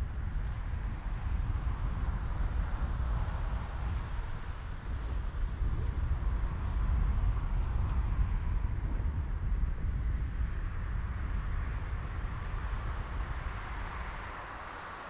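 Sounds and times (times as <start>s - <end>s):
bike tyres rolling on asphalt: 0.0s - 15.0s
wind rumble on microphone: 0.0s - 15.0s.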